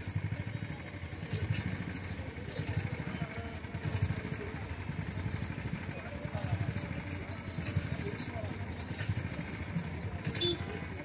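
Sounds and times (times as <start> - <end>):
motorcycle engine running: 0.0 - 11.0
traffic engines rumbling: 0.0 - 11.0.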